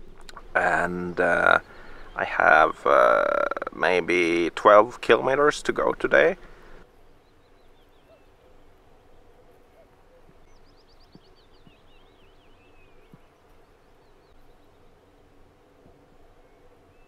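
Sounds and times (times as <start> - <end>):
distant birdsong: 0.0 - 17.0
faint steady hum: 0.0 - 17.0.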